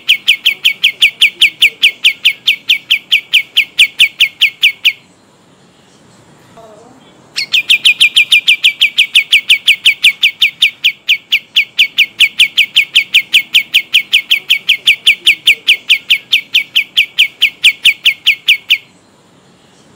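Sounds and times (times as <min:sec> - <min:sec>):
songbird trilling: 0:00.0 - 0:05.1, 0:07.0 - 0:19.1.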